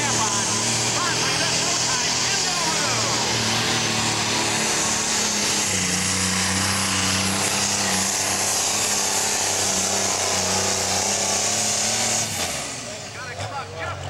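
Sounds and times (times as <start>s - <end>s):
diesel engine droning under load: 0.0s - 14.0s.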